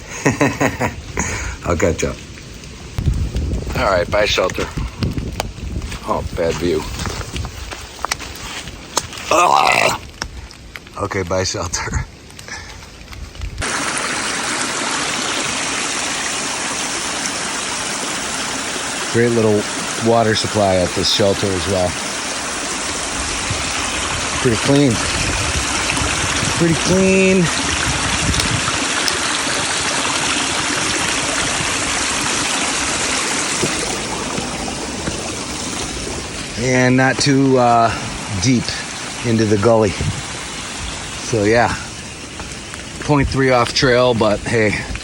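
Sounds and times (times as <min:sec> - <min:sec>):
small stream running: 0:00.0 - 0:13.0, 0:13.6 - 0:45.0.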